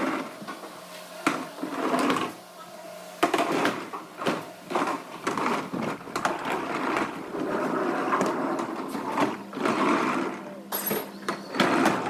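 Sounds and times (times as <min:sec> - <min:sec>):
rattling machine noise: 0:00.0 - 0:02.6, 0:03.2 - 0:12.0.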